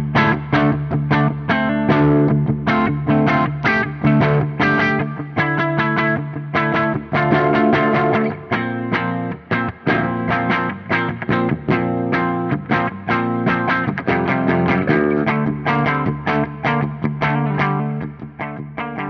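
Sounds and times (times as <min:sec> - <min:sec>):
distorted electric guitar riff: 0:00.0 - 0:19.0.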